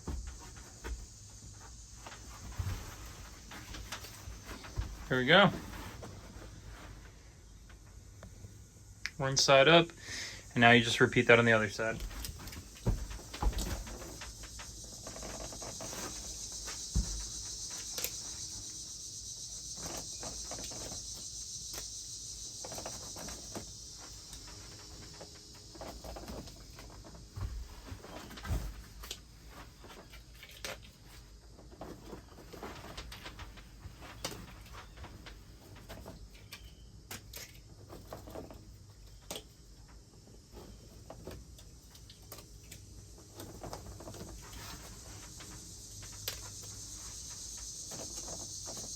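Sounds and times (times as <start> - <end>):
steady high hiss: 0.0 - 37.1, 38.4 - 48.9.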